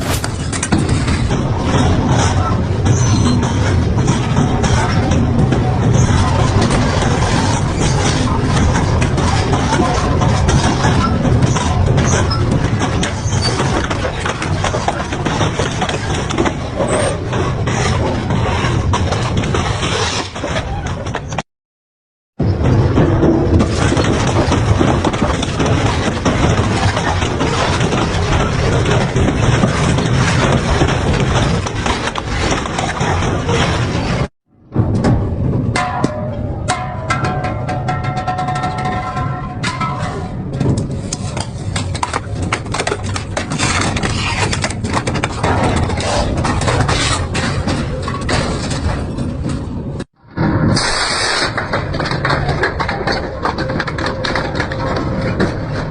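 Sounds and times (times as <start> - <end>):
metal shredder crunching metal: 0.0 - 20.5, 22.4 - 55.9
metal cracks and clangs: 0.0 - 21.4, 22.5 - 55.9.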